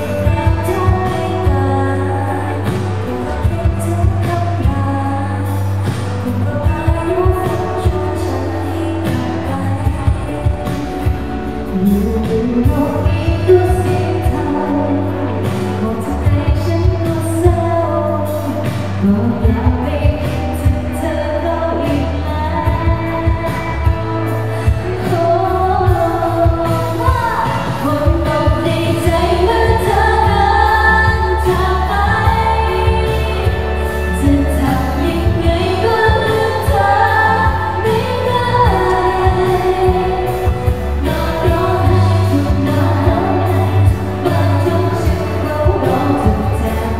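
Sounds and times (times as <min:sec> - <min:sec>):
pop backing track with bass: 0:00.0 - 0:46.9
women singing into microphones: 0:00.0 - 0:46.9.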